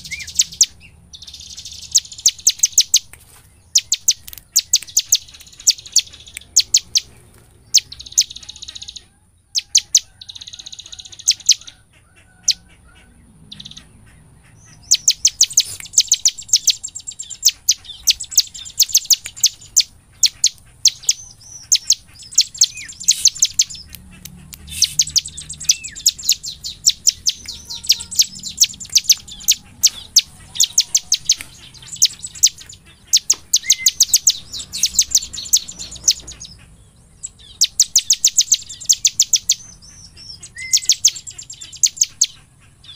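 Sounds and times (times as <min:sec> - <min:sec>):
bird singing rapid high notes: 0:00.0 - 0:11.8, 0:13.4 - 0:42.9.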